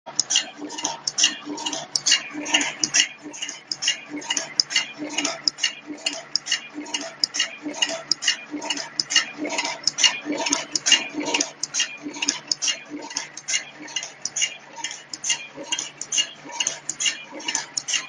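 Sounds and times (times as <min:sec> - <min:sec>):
machine clicking and clacking: 0:00.1 - 0:18.0.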